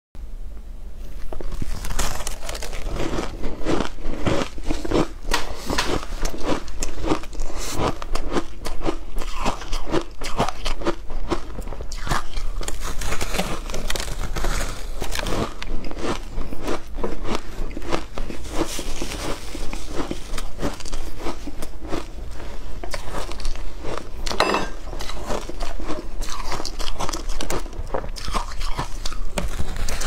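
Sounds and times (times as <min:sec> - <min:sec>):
ice crunching while chewed: 0:01.1 - 0:30.0.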